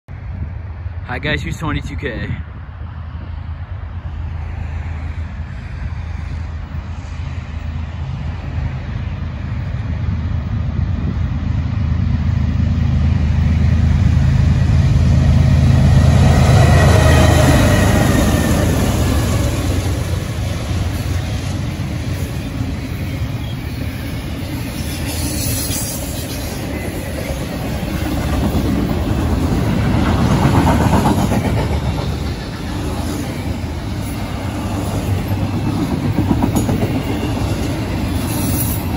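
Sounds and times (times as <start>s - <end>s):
diesel locomotive engine drone: 0.1s - 38.9s
train wheels rolling on rails: 3.1s - 38.9s.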